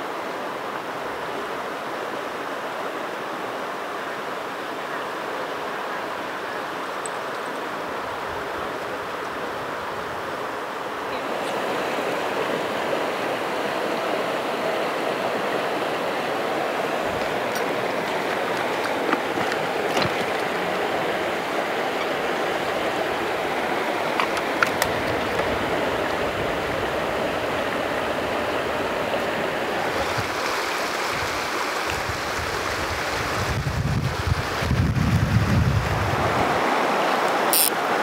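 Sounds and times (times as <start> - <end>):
river water rushing over rocks: 0.0 - 34.8, 35.4 - 38.0.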